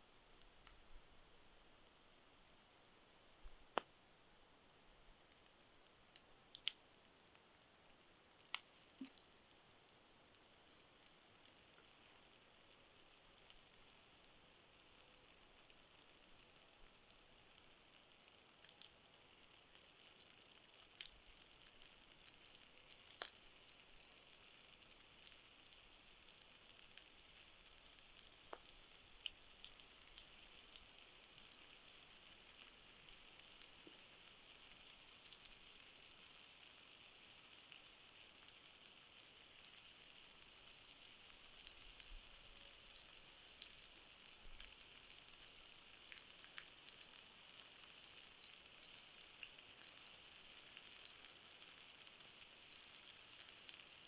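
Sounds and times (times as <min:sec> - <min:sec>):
food sizzling in a pan: 0:05.2 - 0:54.0.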